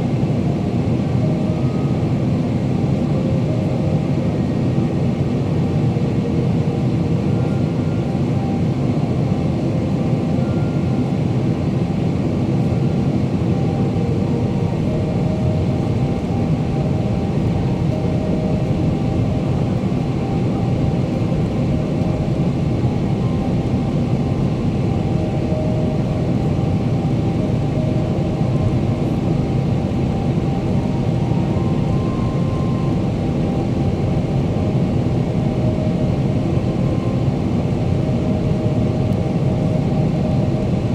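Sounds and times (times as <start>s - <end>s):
airflow rush in aircraft cabin: 0.0s - 40.9s
faint steady tones: 0.0s - 40.9s
jet engines humming: 0.0s - 40.9s.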